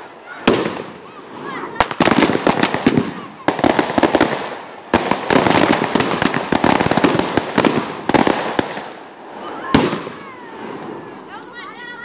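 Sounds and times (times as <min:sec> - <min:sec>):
firecracker pops and bangs: 0:00.0 - 0:01.1, 0:01.8 - 0:11.6.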